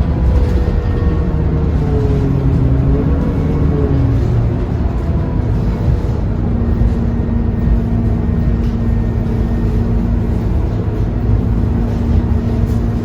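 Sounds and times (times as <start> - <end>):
bus diesel engine droning: 0.0 - 13.0
road rumble: 0.0 - 13.0.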